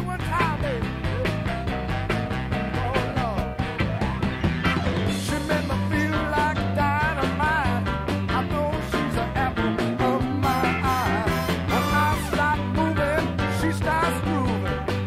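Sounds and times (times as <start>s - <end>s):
r and b band music: 0.0s - 15.0s.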